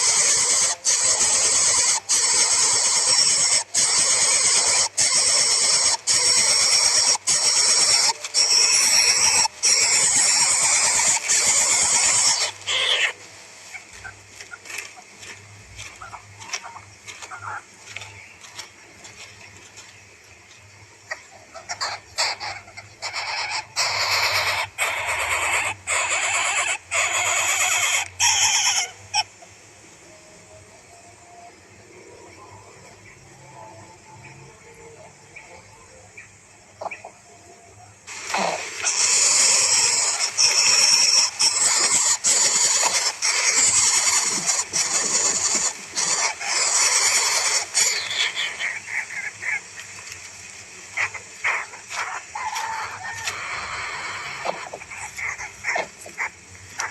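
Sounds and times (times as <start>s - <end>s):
harsh hissing animal calls: 0.0s - 18.4s, 21.0s - 29.5s, 38.0s - 56.9s.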